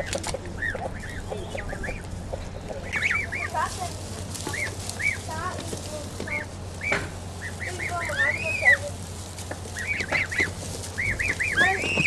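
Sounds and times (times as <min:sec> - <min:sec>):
goslings peeping: 0:00.0 - 0:12.0.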